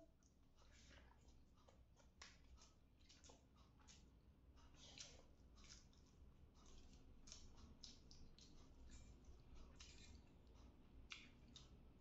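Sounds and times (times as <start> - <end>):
eating by hand wet squishes: 0.0 - 12.0.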